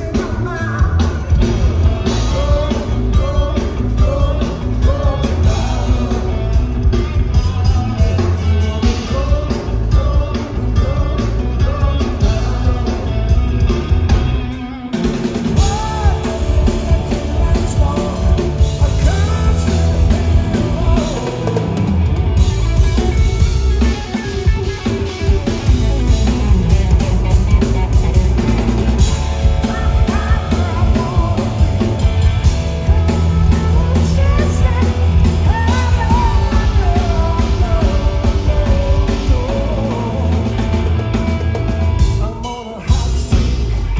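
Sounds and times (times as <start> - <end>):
person singing: 0.0 - 13.8, 14.6 - 24.2, 29.0 - 43.9
bass guitar: 0.0 - 43.9
drum kit: 0.0 - 43.9
electric guitar: 0.0 - 43.9.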